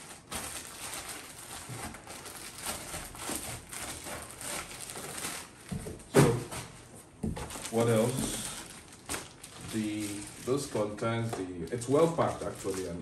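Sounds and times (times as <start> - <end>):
plastic bag crinkling: 0.0 - 6.6, 7.4 - 13.0.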